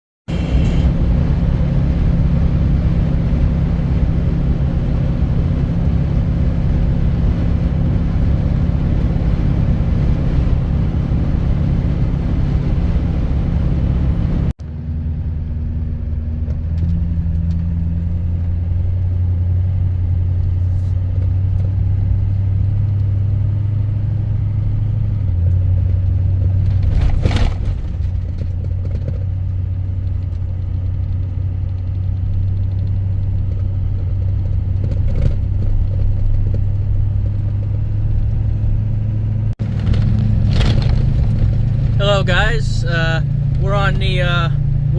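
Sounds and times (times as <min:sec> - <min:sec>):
road noise: 0:00.3 - 0:44.9
vehicle engine drone: 0:00.3 - 0:44.9.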